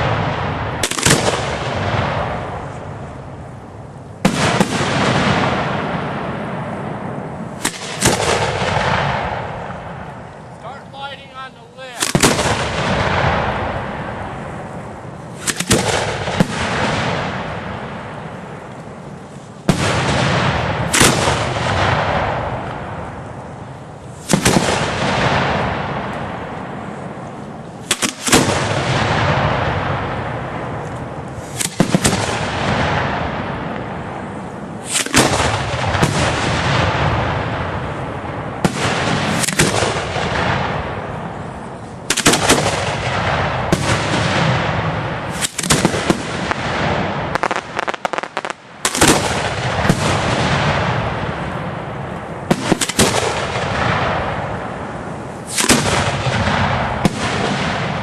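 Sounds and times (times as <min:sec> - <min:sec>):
firework bursts with echo: 0:00.0 - 0:58.0
firework shells launching: 0:00.0 - 0:58.0.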